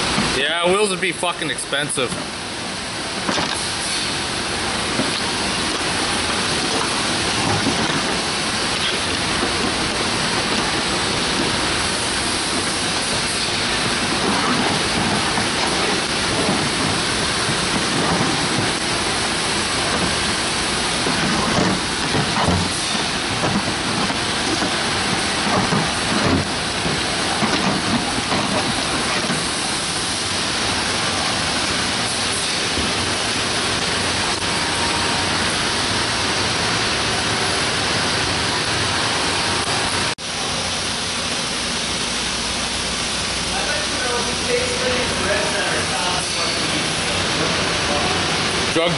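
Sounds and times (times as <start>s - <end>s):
industrial shop floor rushing noise: 0.0s - 48.9s.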